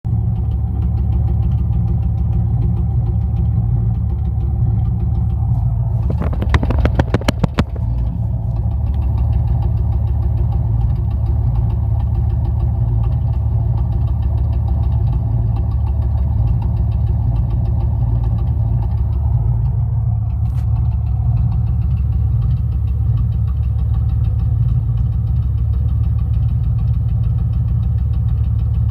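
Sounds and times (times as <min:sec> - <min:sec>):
car engine idling with misfire: 0:00.1 - 0:28.9.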